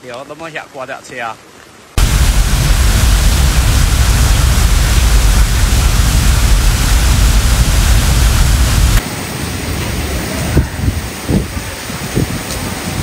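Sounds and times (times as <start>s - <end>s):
floodwater torrent rushing: 2.0s - 13.0s.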